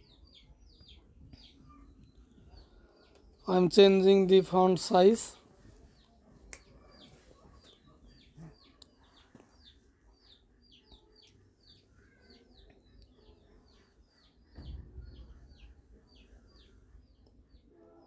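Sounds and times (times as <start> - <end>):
faint bird chirping: 0.0 - 18.0.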